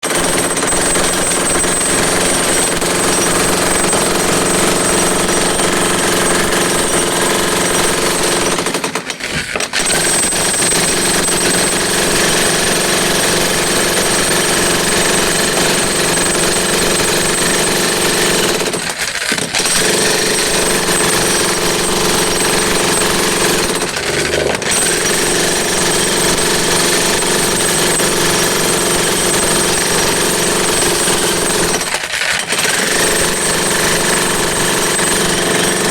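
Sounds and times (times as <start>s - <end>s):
power hammer chipping masonry: 0.0s - 35.9s.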